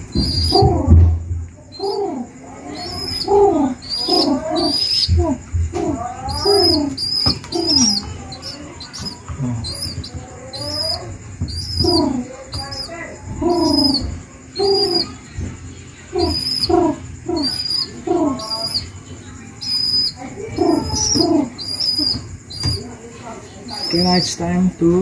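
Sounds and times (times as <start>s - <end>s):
baby pigeon squeaky calls: 0.0s - 15.4s, 16.0s - 23.0s, 23.6s - 24.4s.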